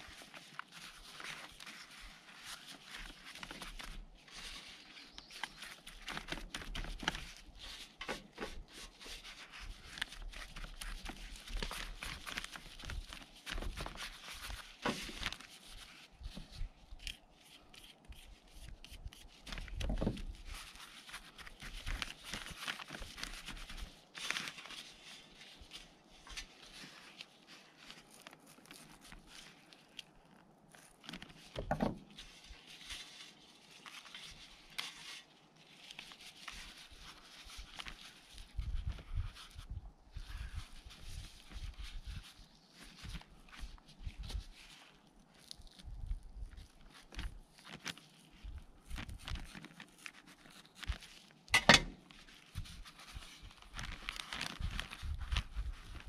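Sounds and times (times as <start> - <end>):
plastic bag rustling: 0.0 - 56.0.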